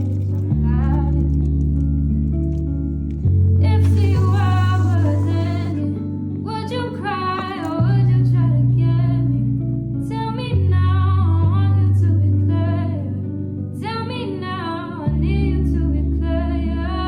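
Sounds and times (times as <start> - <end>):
song with singing bass and guitar: 0.0 - 17.0.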